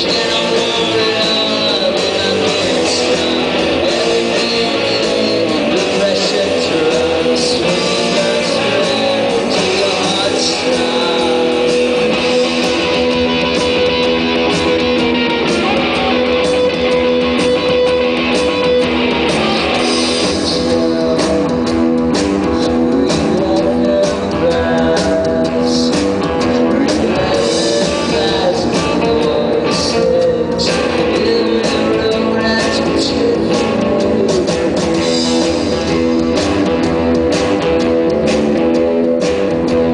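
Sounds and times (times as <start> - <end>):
electric guitar: 0.0 - 39.9
live rock band playing: 0.0 - 39.9.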